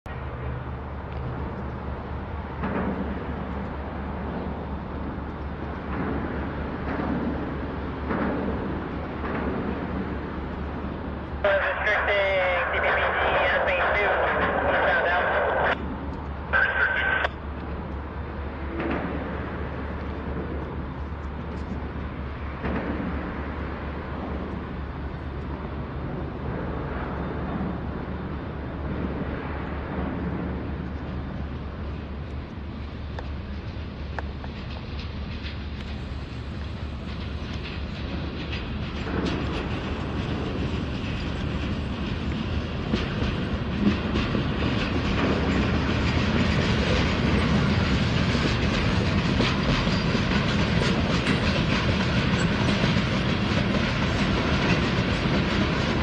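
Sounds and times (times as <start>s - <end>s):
low engine rumble: 0.1s - 56.0s
outdoor background noise: 0.1s - 56.0s.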